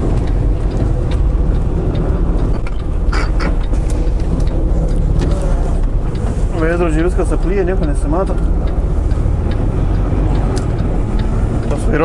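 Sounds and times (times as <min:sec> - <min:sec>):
diesel truck engine rumble: 0:00.0 - 0:12.0.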